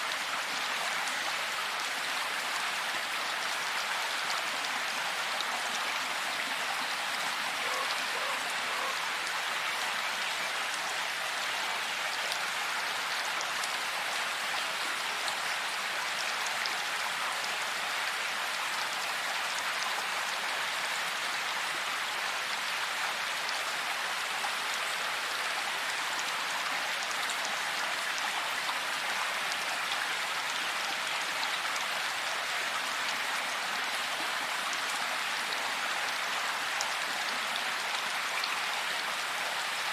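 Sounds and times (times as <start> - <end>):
rain hissing in a forest: 0.0 - 39.9.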